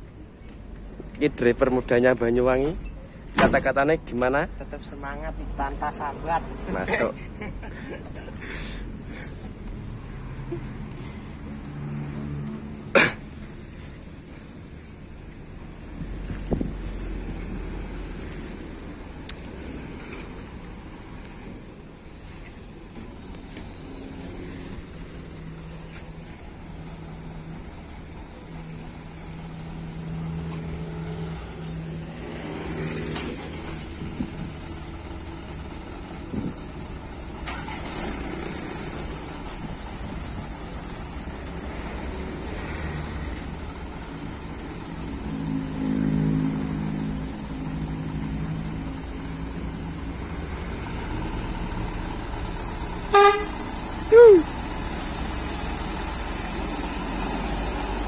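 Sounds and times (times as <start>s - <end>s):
diesel engines idling: 0.0s - 58.0s.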